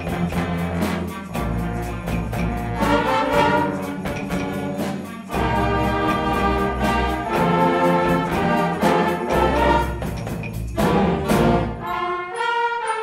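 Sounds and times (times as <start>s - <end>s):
concert band playing chords: 0.0s - 12.5s
high percussion strokes: 0.0s - 13.0s.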